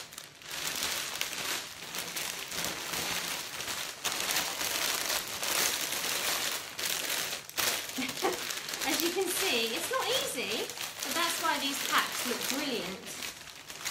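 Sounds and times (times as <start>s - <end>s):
cellophane wrap crinkling: 0.0s - 13.9s.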